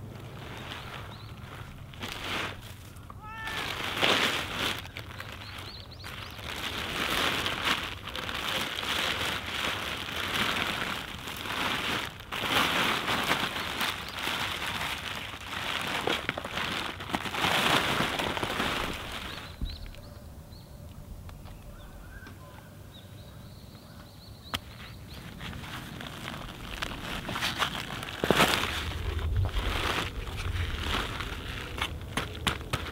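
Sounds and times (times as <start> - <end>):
plastic film crinkling: 0.0 - 20.3, 24.6 - 32.9.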